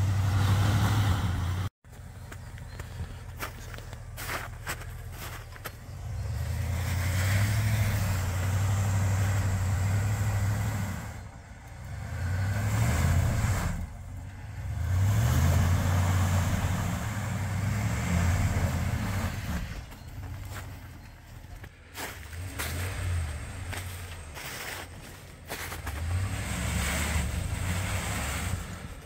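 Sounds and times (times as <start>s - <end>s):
pickup engine revving: 0.0s - 1.7s, 4.2s - 21.3s, 21.9s - 29.0s.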